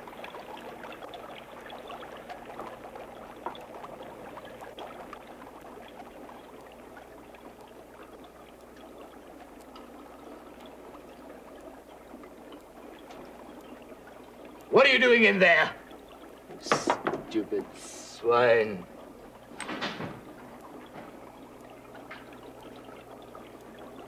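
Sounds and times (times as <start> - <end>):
liquid bubbling in glassware: 0.0 - 24.0.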